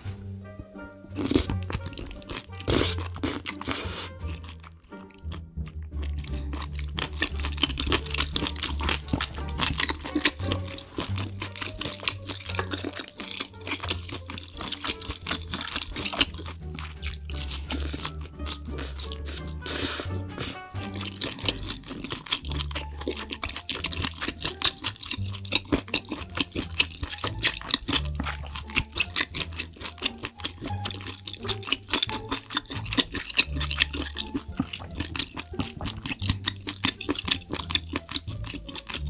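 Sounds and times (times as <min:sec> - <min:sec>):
wet chewing: 0:00.0 - 0:39.0.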